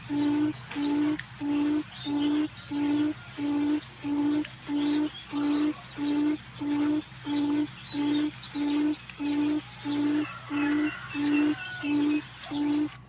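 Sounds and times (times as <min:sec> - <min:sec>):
faint high bird chirps: 0:00.0 - 0:13.0.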